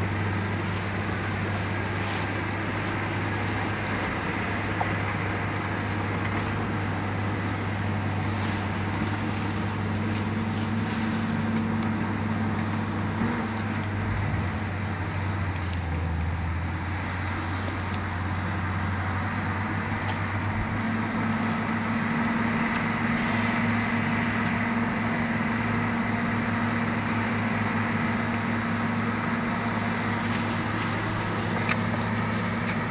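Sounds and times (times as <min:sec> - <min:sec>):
bulldozer engine droning: 0:00.0 - 0:32.9.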